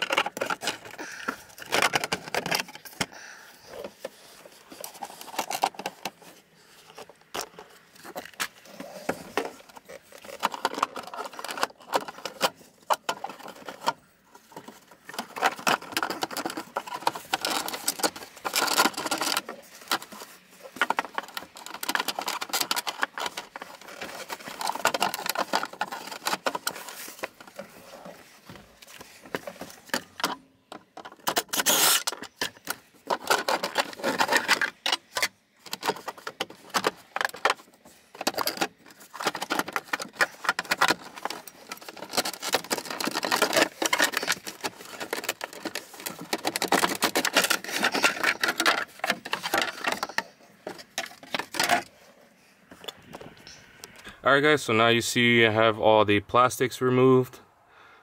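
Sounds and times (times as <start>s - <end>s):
plastic trim clicking and rattling: 0.0s - 3.1s, 6.9s - 51.9s.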